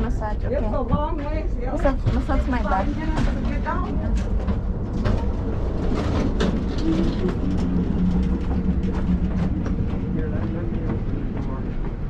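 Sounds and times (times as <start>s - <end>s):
low droning hum: 0.0s - 12.0s
train rumbling: 0.0s - 12.0s
knocks and rattles: 0.8s - 12.0s.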